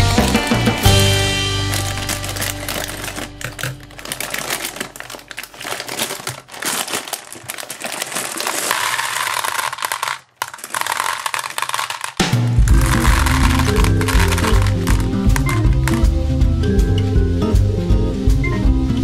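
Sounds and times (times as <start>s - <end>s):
gumballs clattering into plastic: 0.0s - 16.3s
plastic bag crinkling: 0.2s - 16.2s.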